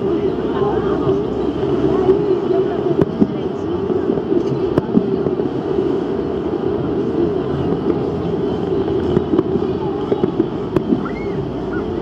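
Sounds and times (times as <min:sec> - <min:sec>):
crowd of overlapping voices: 0:00.0 - 0:12.0.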